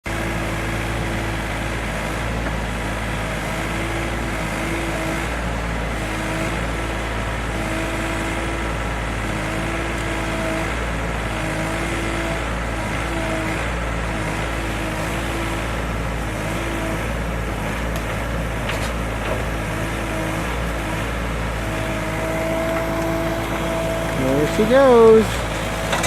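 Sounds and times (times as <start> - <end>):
engine running rumble: 0.0 - 26.0.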